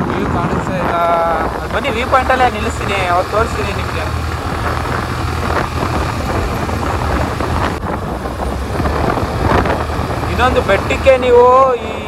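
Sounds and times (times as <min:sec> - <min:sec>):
scooter engine rumble: 0:00.0 - 0:12.0
wind buffeting microphone: 0:00.0 - 0:12.0.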